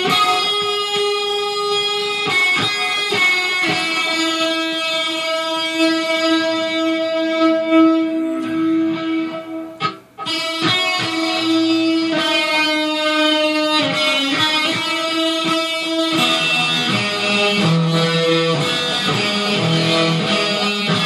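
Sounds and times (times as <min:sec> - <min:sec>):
electric guitar chords: 0:00.0 - 0:21.0.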